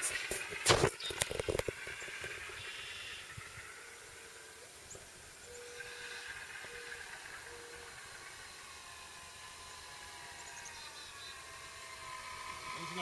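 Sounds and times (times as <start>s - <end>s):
model airplane whine: 0.0s - 13.0s
outdoor hiss: 0.0s - 13.0s.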